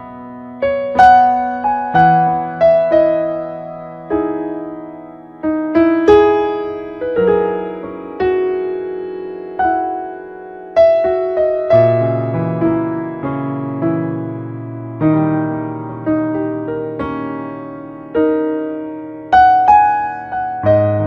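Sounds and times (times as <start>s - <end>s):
slow solo piano music: 0.0s - 21.0s.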